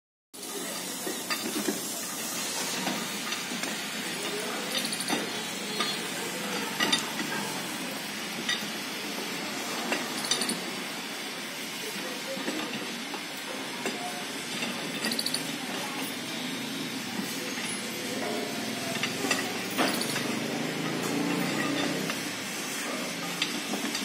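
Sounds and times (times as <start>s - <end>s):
steady hiss: 0.4s - 24.0s.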